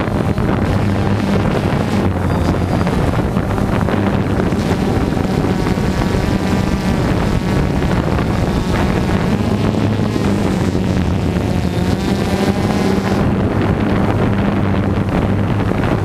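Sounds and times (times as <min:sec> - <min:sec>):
drone motors humming: 0:00.0 - 0:16.0
wind noise on microphone: 0:00.0 - 0:16.0.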